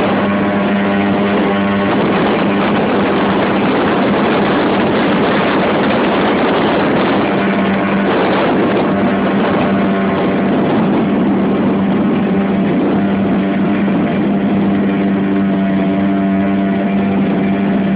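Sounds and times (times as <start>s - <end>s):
outboard motor running: 0.0s - 17.9s
water rushing: 0.0s - 17.9s
wind: 0.0s - 17.9s.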